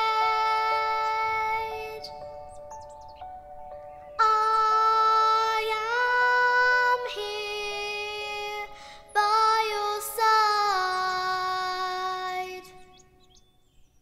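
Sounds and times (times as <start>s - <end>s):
high voice singing long notes: 0.0s - 2.5s, 4.1s - 13.2s.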